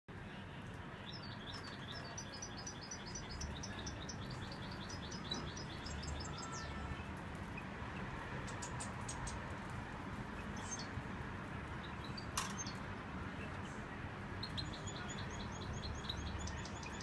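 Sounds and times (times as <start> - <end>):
finch twittering song: 1.0 - 9.7, 10.3 - 17.0.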